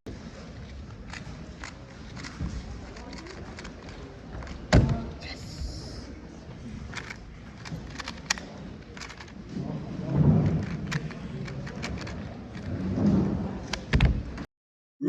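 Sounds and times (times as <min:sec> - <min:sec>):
murmur of voices: 0:00.1 - 0:14.4.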